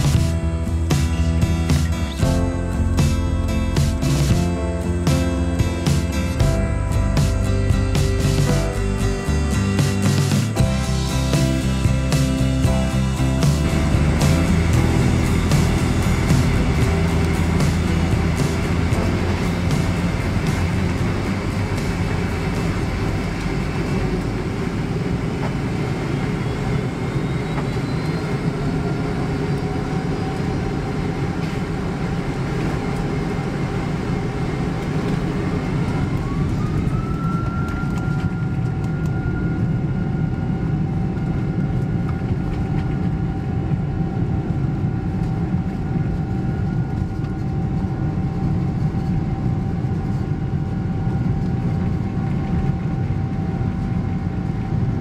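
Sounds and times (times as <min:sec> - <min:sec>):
jet engines rumbling with whine: 0:00.0 - 0:55.0.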